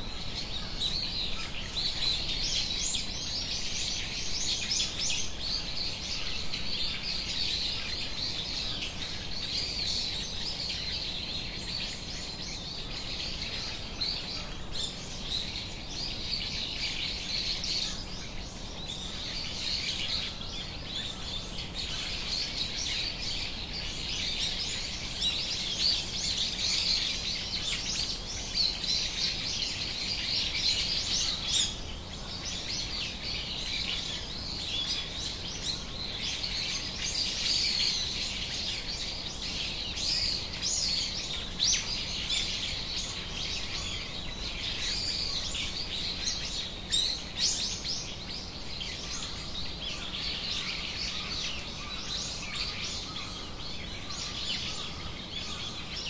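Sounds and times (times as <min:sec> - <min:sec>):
birds chirping and calling: 0:00.0 - 0:56.0
low background hiss: 0:00.0 - 0:56.0.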